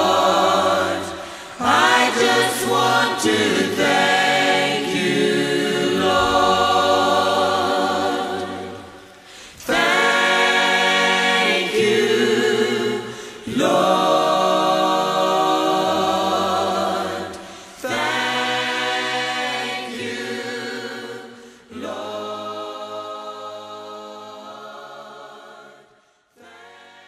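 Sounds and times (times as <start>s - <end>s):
choir singing slow song: 0.0s - 27.0s.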